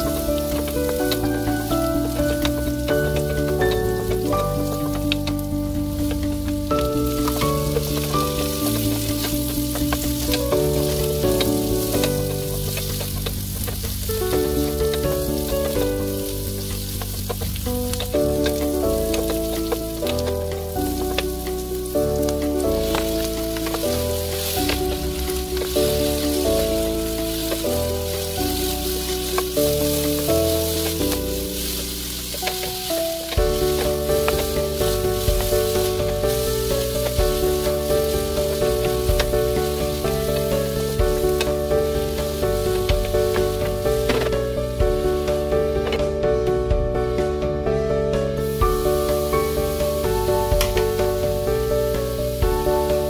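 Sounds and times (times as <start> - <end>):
vegetables sizzling in pan: 0.0 - 46.1, 48.4 - 53.0
spatula scraping and tossing: 0.0 - 46.2
background music held notes: 0.0 - 53.0.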